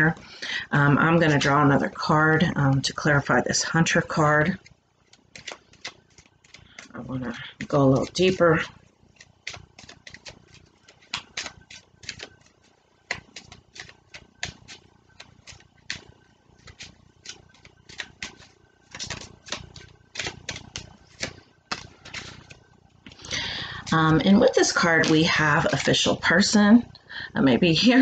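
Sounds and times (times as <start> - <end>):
cards being shuffled: 1.0 - 26.5.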